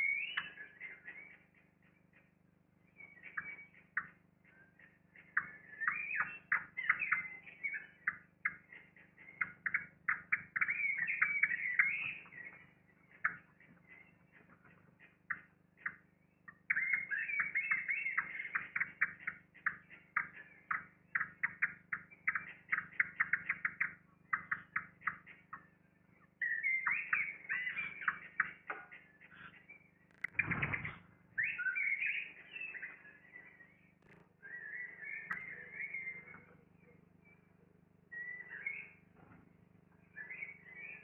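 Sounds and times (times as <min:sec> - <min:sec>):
blackbirds high calls: 0:00.0 - 0:41.0.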